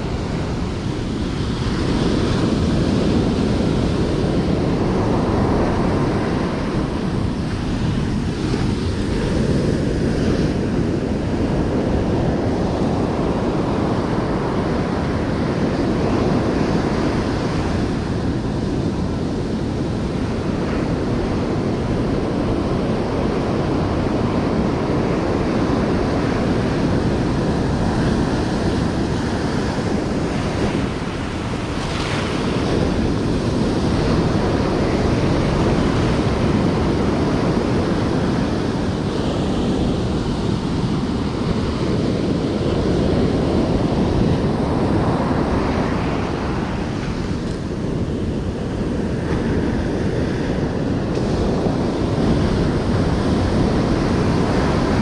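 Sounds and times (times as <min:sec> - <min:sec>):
ocean surf breaking on beach: 0:00.0 - 0:55.0
wind buffeting microphone: 0:00.0 - 0:55.0.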